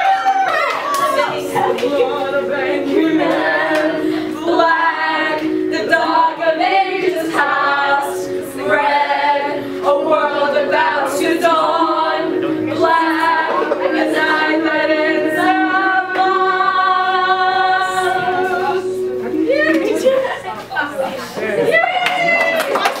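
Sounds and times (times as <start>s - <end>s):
choir singing: 0.0s - 20.9s.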